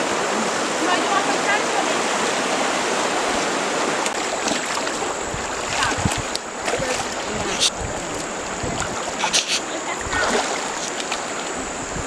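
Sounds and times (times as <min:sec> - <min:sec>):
water sloshing and splashing: 0:00.0 - 0:11.8.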